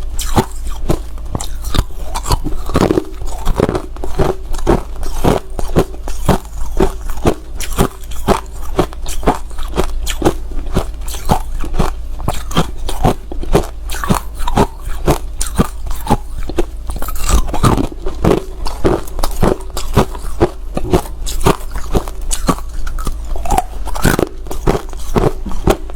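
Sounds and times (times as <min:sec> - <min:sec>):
ice crunching between teeth: 0:00.2 - 0:25.9.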